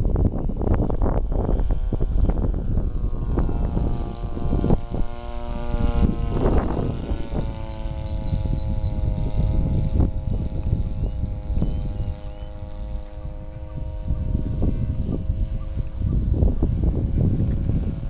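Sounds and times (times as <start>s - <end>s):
model airplane engine: 0.0s - 18.0s
wind rumble on microphone: 0.0s - 18.0s.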